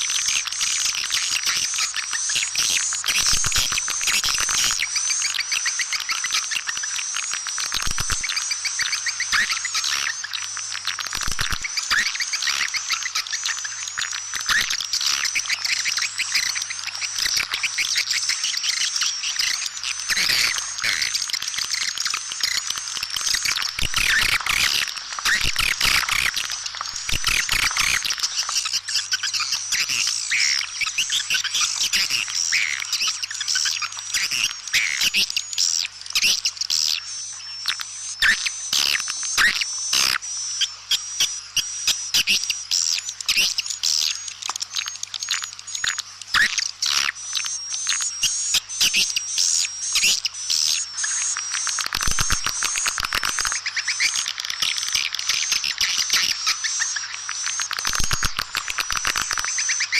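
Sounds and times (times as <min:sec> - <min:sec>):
swiftlets twittering: 0:11.5 - 0:59.9.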